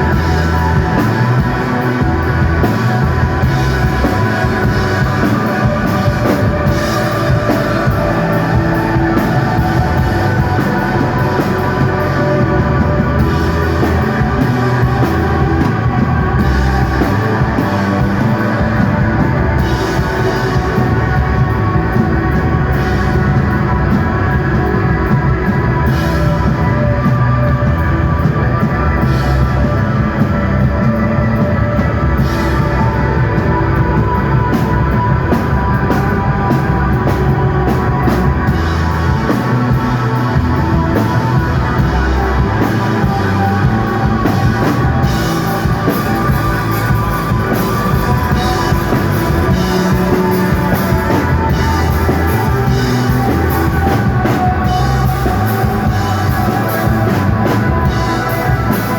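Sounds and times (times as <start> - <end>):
bass guitar: 0.0 - 58.9
drum kit beat: 0.0 - 58.9
sustained electric guitar: 0.0 - 58.9.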